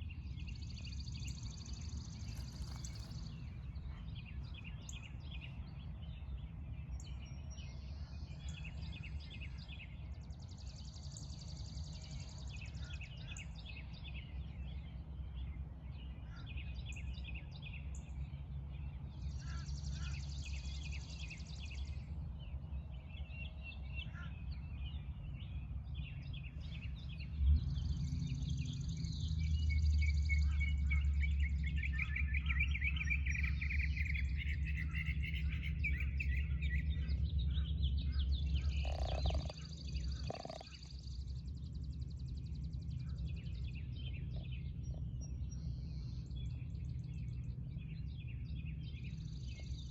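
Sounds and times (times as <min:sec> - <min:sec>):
birds chirping and singing: 0:00.0 - 0:49.9
steady low rumble: 0:00.0 - 0:49.9.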